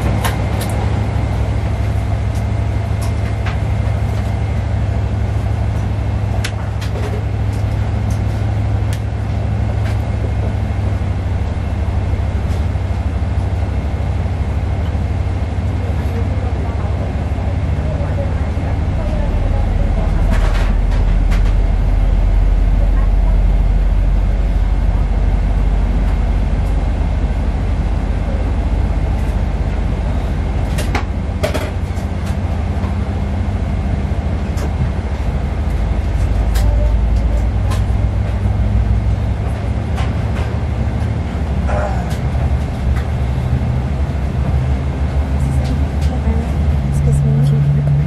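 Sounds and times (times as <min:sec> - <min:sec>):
aircraft cabin rumble and hum: 0:00.0 - 0:48.0.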